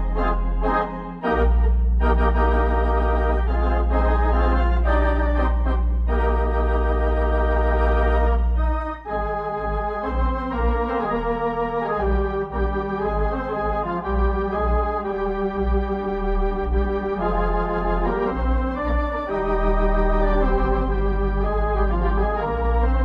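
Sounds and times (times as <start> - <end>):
organ music: 0.0 - 23.0.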